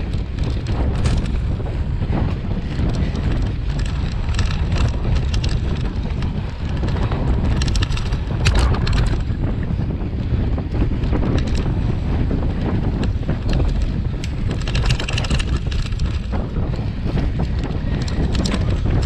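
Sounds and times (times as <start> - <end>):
bike rattling and clicking: 0.0 - 19.0
wind buffeting microphone: 0.0 - 19.0.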